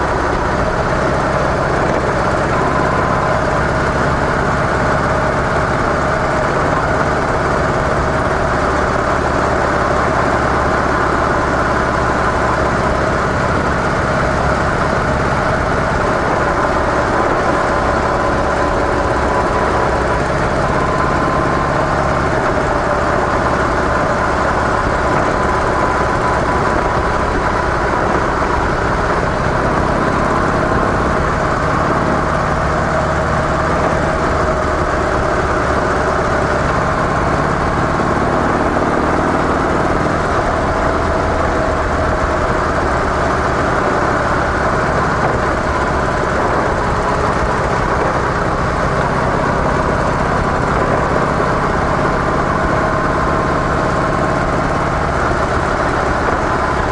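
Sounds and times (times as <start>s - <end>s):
even rush of noise: 0.0s - 56.9s
motorcycle engine running: 0.0s - 56.9s.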